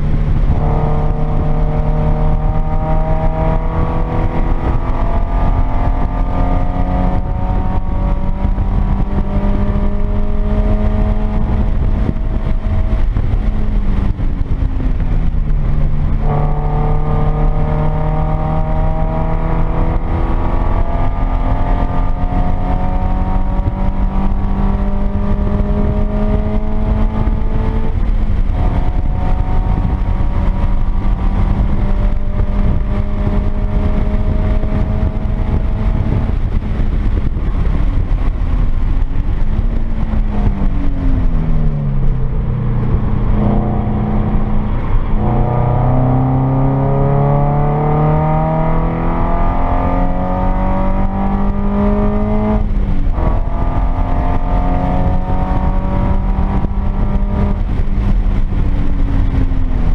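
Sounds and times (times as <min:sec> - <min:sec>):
car engine revving: 0:00.0 - 0:59.9
wind noise: 0:00.0 - 0:59.9.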